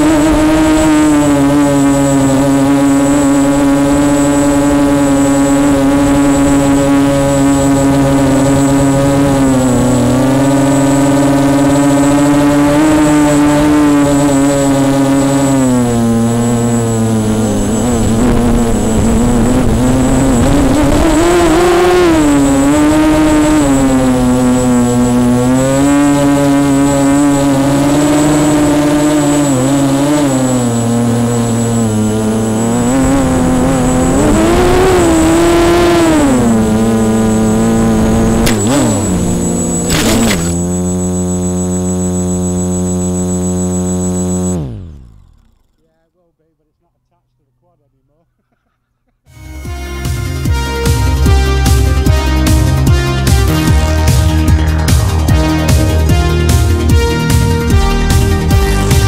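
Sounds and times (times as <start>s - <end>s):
quadcopter motors whining: 0.0s - 46.0s, 49.6s - 59.0s.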